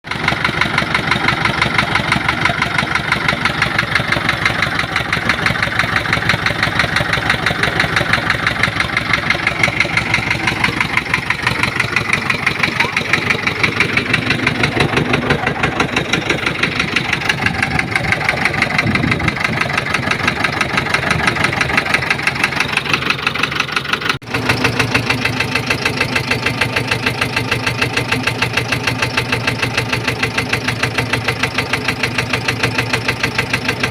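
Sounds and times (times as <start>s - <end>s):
diesel engine idling with knock: 0.0s - 33.9s.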